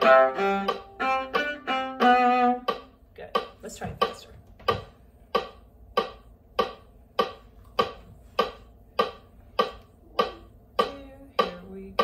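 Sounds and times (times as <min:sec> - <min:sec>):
metronome clicking: 0:00.0 - 0:03.6, 0:05.3 - 0:12.0.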